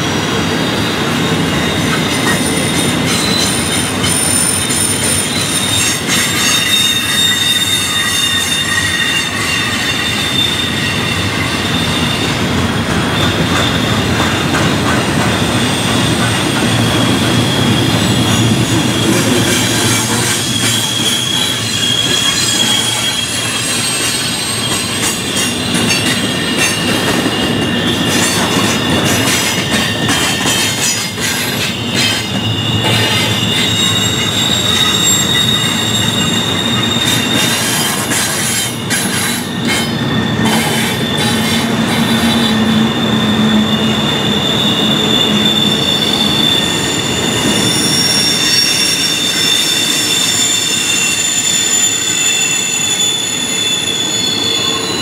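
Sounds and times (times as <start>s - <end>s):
train rumbling past: 0.0s - 55.0s
train wheels squealing on rails: 0.0s - 55.0s.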